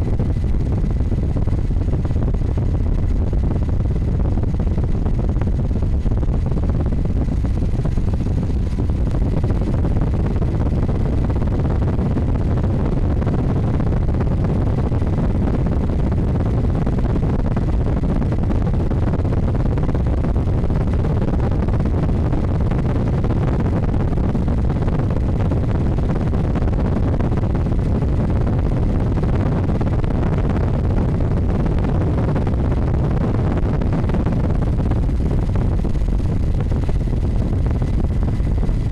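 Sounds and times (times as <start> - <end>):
helicopter engine and rotors: 0.0 - 38.9
wind noise on microphone: 0.0 - 38.9.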